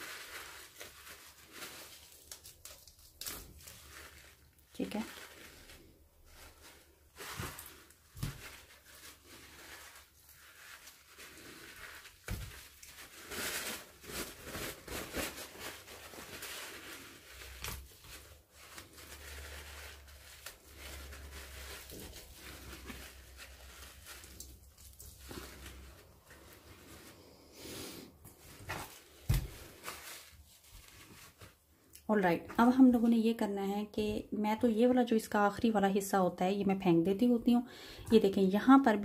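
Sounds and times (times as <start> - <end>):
tissue paper crinkling: 0.0 - 31.9.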